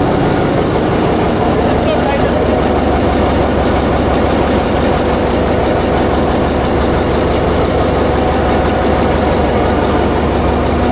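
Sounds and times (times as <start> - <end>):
diesel generator engine running: 0.0 - 10.9.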